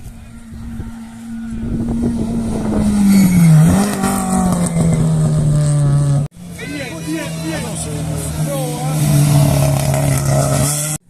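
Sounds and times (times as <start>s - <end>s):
rally car passing at full throttle: 0.0s - 11.0s.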